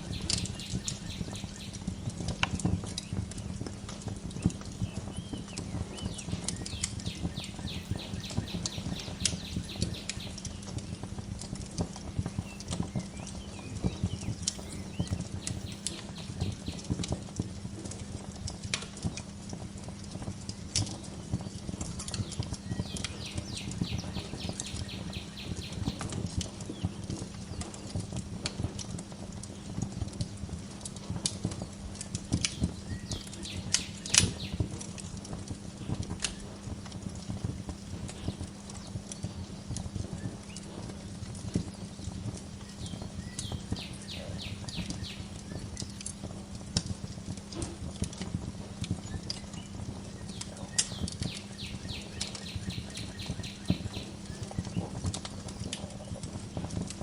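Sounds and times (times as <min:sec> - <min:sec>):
low steady rumble: 0:00.0 - 0:57.0
wood fire crackling and popping: 0:00.0 - 0:57.0.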